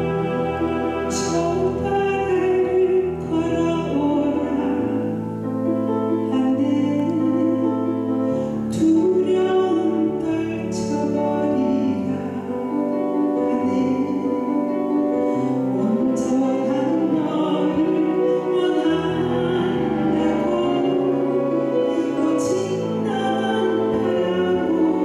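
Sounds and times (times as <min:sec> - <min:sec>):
instrumental accompaniment: 0:00.0 - 0:25.0
woman singing into microphone: 0:01.1 - 0:05.5, 0:06.1 - 0:25.0.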